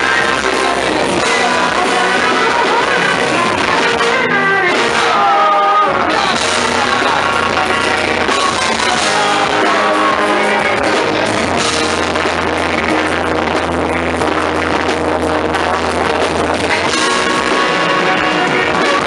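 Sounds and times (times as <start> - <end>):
bass: 0.0 - 19.0
drums: 0.0 - 19.0
electric guitar: 0.0 - 19.0
person singing: 0.0 - 19.0.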